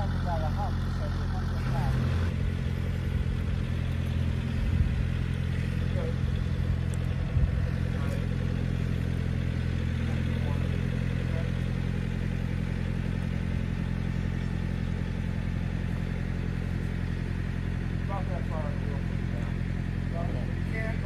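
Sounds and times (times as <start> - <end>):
vehicle engine running at low speed: 0.0 - 21.0.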